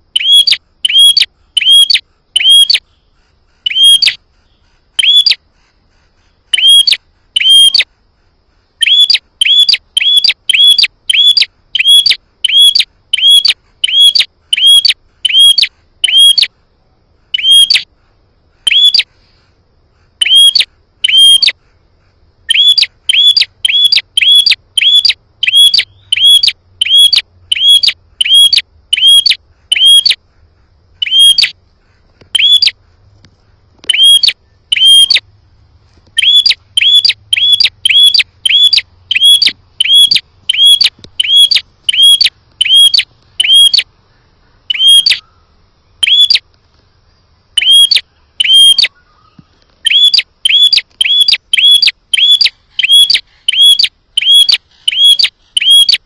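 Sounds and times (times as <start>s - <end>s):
bird sharp high chirps: 0.0s - 5.4s, 6.5s - 7.9s, 8.8s - 16.5s, 17.3s - 17.9s, 18.7s - 19.1s, 20.2s - 21.6s, 22.5s - 30.2s, 31.0s - 31.6s, 32.4s - 32.8s, 33.8s - 35.3s, 36.2s - 43.9s, 44.7s - 46.5s, 47.6s - 56.0s.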